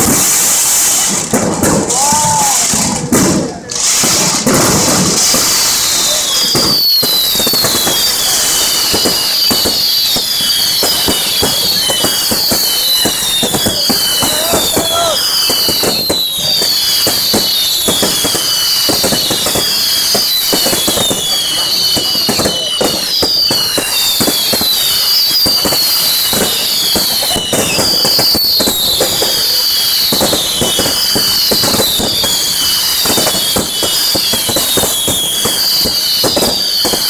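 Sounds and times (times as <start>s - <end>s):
fireworks crackling and banging: 0.0s - 37.0s
high falling whistle: 5.2s - 37.0s.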